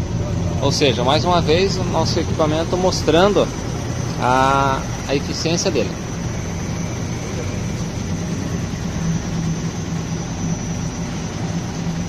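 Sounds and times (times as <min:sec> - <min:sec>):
suspension shaker mechanical drone: 0:00.0 - 0:12.0.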